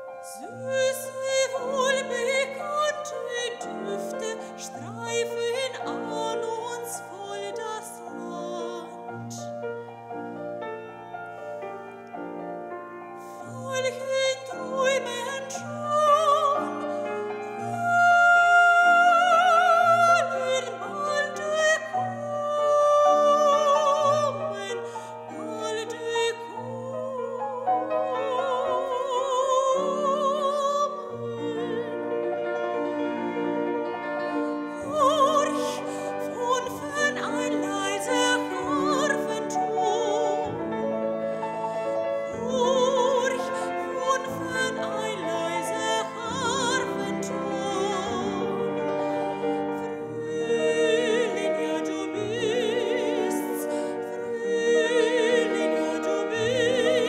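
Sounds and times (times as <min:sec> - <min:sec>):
grand piano: 0:00.0 - 0:57.0
soprano singing: 0:00.0 - 0:57.0.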